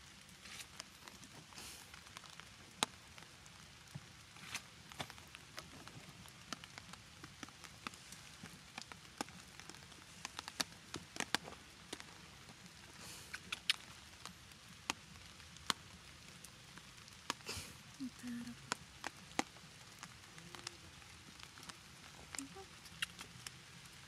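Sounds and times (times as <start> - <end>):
faint steady hiss: 0.0 - 24.0
raindrops dripping and tapping: 0.0 - 24.0.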